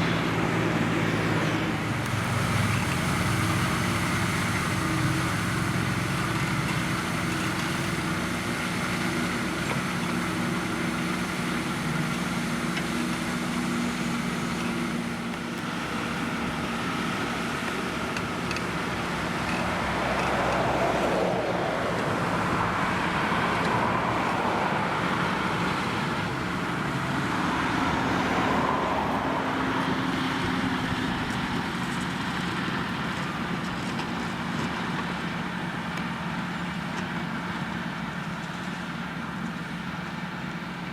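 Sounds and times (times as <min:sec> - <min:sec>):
tractor engines running: 0:00.0 - 0:40.9.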